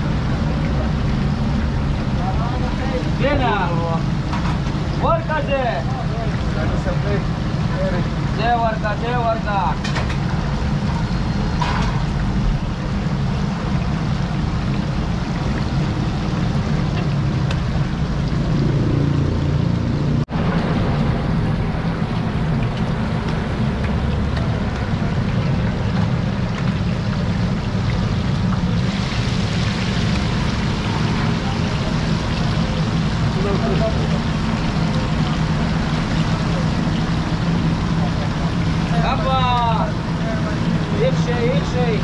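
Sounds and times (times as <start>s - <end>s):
food sizzling in oil: 0.0s - 19.8s, 21.5s - 42.0s
low rumble with hiss: 0.0s - 42.0s.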